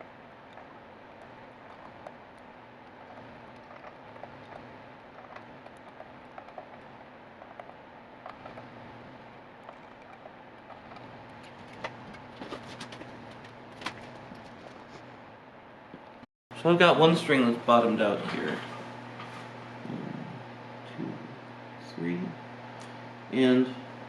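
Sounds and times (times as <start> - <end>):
steady room hum: 0.0 - 24.0.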